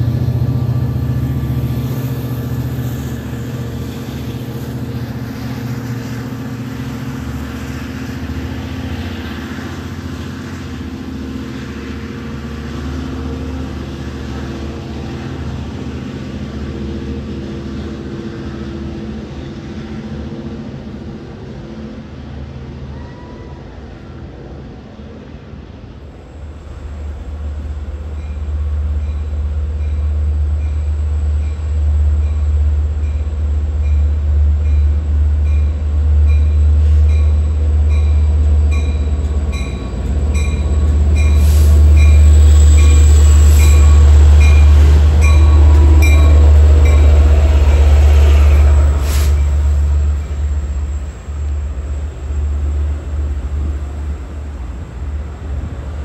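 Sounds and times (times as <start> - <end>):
train rumbling: 0.0 - 56.0
train wheels and brakes rushing: 0.0 - 56.0.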